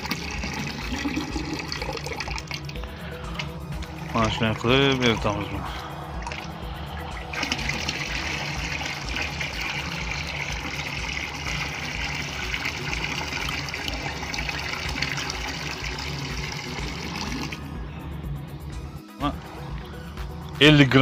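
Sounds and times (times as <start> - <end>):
liquid pouring and splashing: 0.0 - 17.6.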